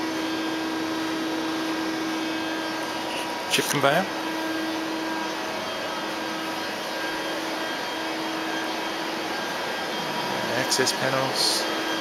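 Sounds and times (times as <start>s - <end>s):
machinery whirring hum: 0.0s - 12.0s.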